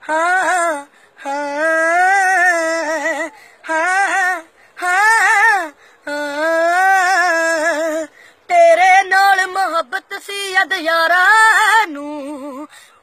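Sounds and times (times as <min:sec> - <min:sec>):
boy singing wordless melody: 0:00.0 - 0:13.0.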